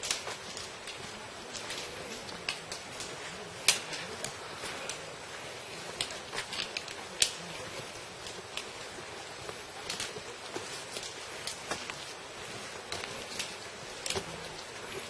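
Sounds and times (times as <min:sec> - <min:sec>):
footsteps on stony trail: 0:00.0 - 0:15.0.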